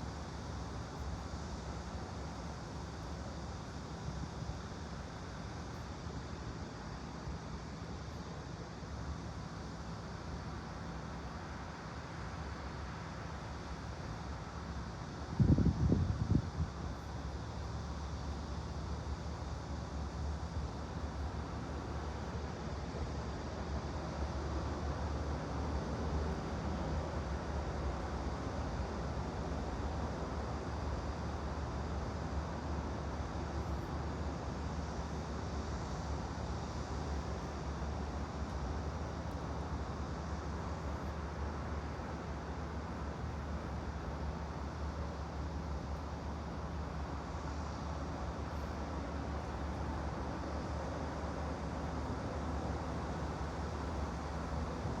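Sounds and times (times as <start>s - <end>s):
constant low rumble: 0.0s - 55.0s.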